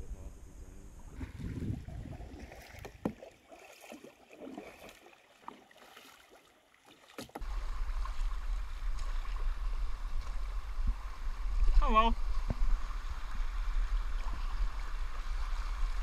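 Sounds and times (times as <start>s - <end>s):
paddle strokes in water: 1.2s - 16.0s.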